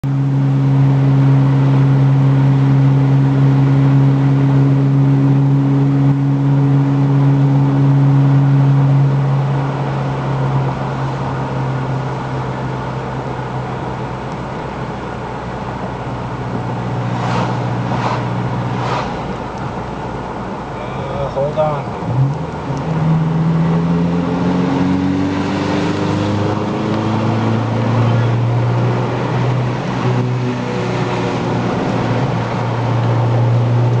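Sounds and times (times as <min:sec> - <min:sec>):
engine and road hum in cab: 0:00.0 - 0:34.0.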